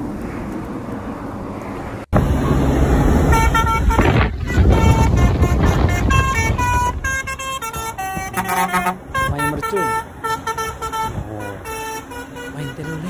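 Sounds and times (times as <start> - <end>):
highway traffic noise: 0.0 - 13.0
truck engine rumble: 0.0 - 13.0
truck horn playing a tune: 2.3 - 13.0.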